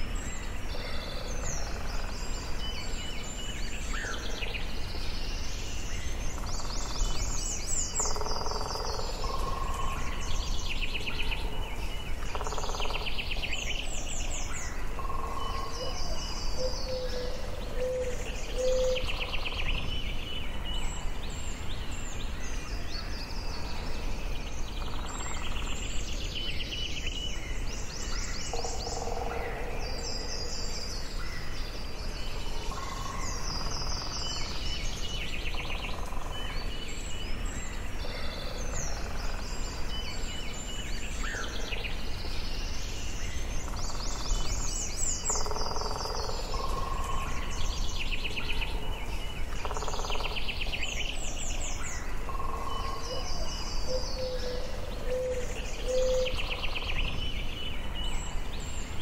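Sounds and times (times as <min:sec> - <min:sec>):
background hiss: 0:00.0 - 0:59.0
songbirds singing: 0:00.0 - 0:59.0.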